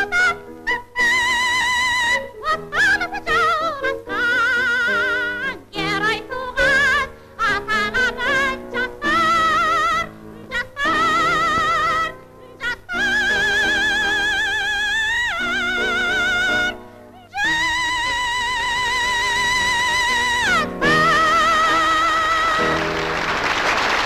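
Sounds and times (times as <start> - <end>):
soprano singing opera aria: 0.0 - 22.8.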